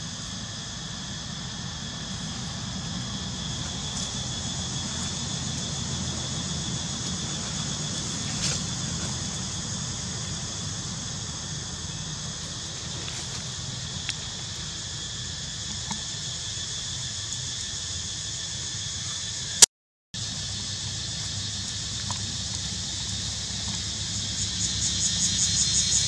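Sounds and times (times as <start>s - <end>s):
high-pitched insect chorus: 0.0s - 19.6s, 20.2s - 26.0s.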